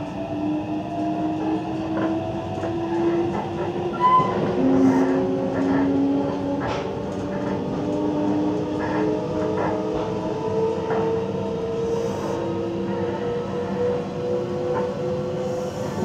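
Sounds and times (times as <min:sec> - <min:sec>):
train rumble with rising whine: 0:00.0 - 0:16.0.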